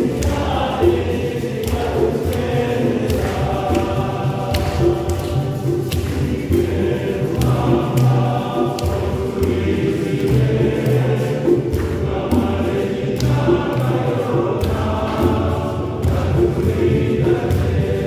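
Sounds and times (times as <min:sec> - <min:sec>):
choir singing: 0:00.0 - 0:18.0
percussive strikes: 0:00.0 - 0:18.0.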